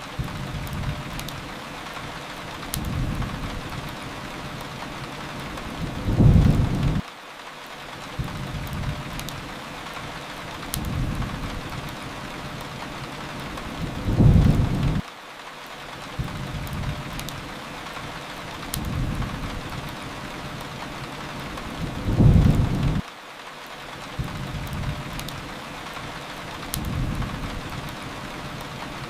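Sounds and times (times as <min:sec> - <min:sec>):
thunder rumbles: 0:00.0 - 0:07.0, 0:08.2 - 0:09.5, 0:10.5 - 0:15.0, 0:16.2 - 0:23.0, 0:24.2 - 0:29.0
steady rain: 0:00.0 - 0:29.0
wood fire crackles: 0:00.0 - 0:29.0.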